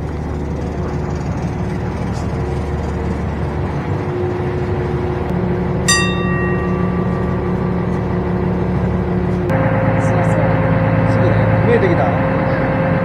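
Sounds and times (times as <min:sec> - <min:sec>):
faint constant hum: 0:00.0 - 0:12.0
diesel engine droning: 0:00.0 - 0:13.0.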